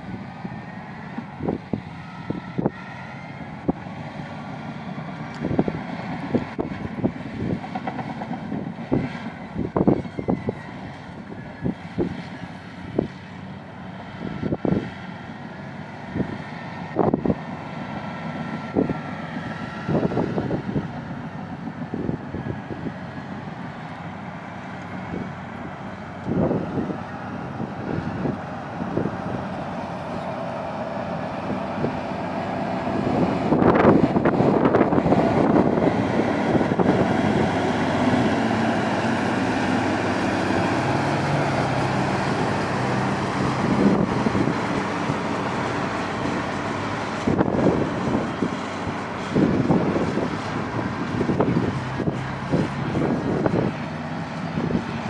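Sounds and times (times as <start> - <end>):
heavy diesel machinery running: 0.0 - 55.0
motor grader engine passing: 0.0 - 55.0.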